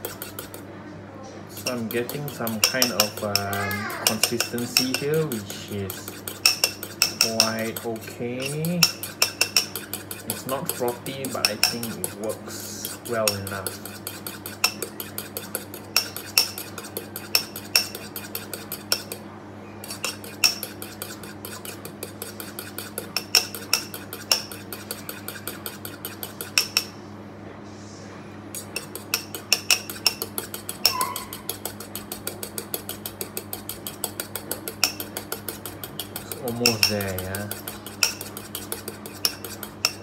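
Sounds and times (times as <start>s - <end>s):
fork whisking in ceramic bowl: 0.0s - 0.6s, 1.5s - 19.2s, 19.8s - 27.0s, 28.6s - 40.0s.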